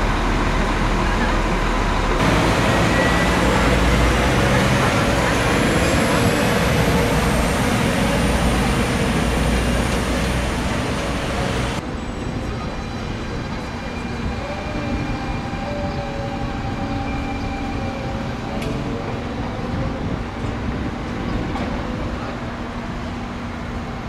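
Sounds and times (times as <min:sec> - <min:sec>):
passenger train rumbling past: 0:00.0 - 0:24.0
rail noise: 0:00.0 - 0:24.0.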